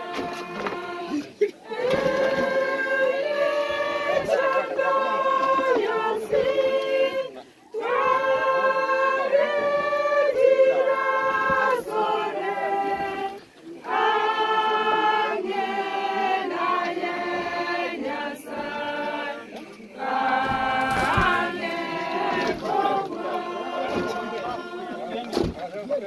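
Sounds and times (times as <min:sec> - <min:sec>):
group of people singing: 0:00.0 - 0:25.7.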